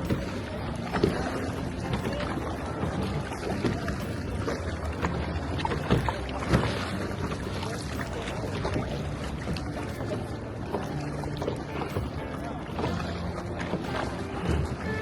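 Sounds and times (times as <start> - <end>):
paddle strokes: 0.0 - 15.0
water splashing against kayak: 0.0 - 15.0.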